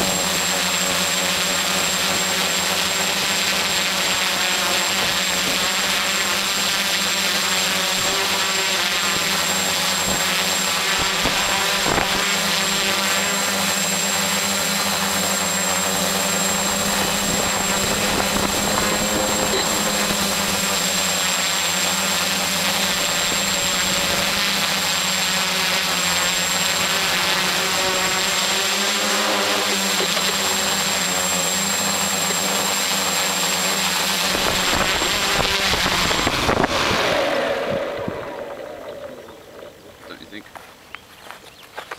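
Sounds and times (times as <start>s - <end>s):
quadcopter motors whining and buzzing: 0.0s - 41.9s.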